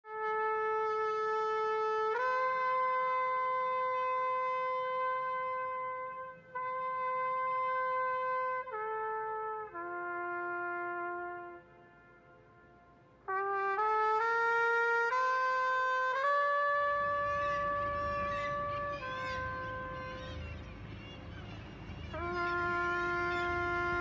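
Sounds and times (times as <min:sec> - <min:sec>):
solo brass melody: 0:00.0 - 0:24.0.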